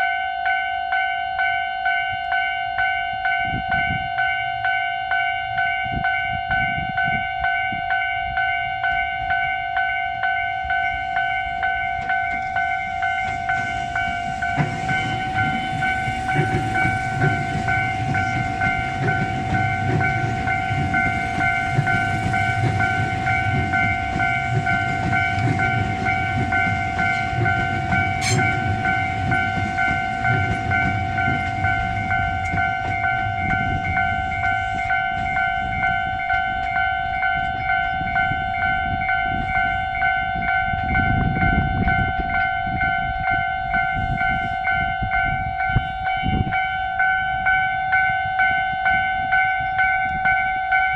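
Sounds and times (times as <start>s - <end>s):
level crossing alarm ringing: 0.0s - 50.9s
train rumbling past: 0.0s - 50.9s.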